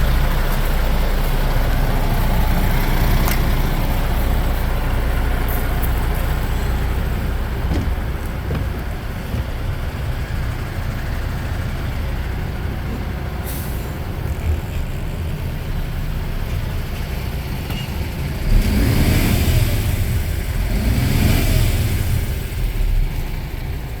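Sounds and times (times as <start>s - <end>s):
truck diesel engine revving: 0.0s - 24.0s.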